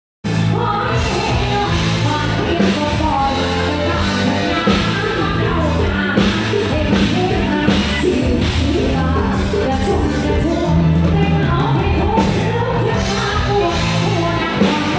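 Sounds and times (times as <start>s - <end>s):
drum kit beat: 0.2s - 14.9s
live band through pa: 0.2s - 14.9s
woman singing: 0.3s - 14.9s.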